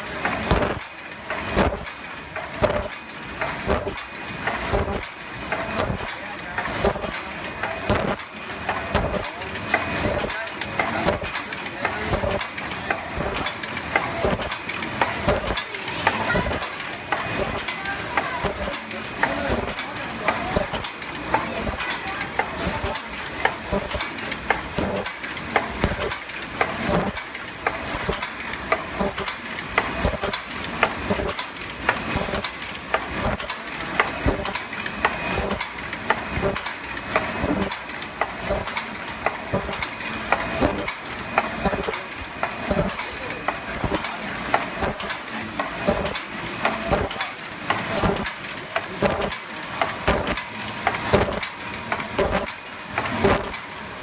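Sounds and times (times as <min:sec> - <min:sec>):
machine rhythmic clatter: 0:00.0 - 0:54.0.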